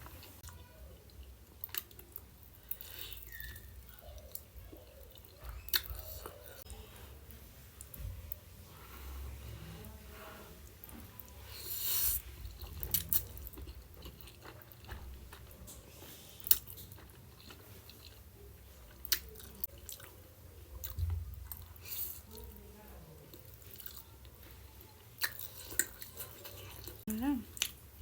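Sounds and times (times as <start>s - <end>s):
person chewing food: 0.0s - 6.8s, 10.6s - 22.5s, 23.2s - 27.8s.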